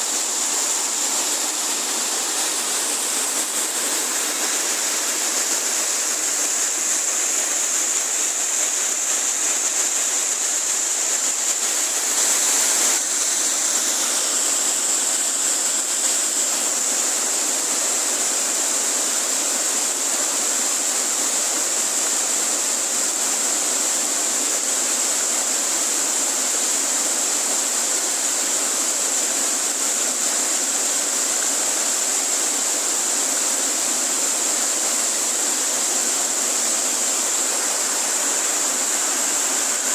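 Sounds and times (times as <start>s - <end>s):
mountain stream rushing over rocks: 0.0s - 39.9s.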